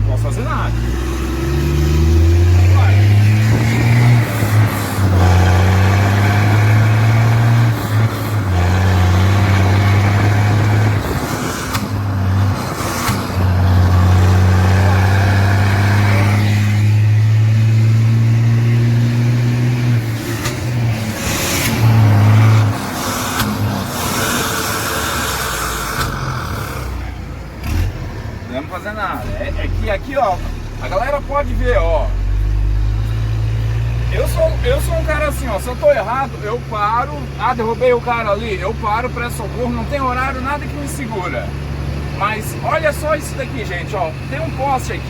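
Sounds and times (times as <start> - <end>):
truck exhaust drone: 0.0 - 45.0.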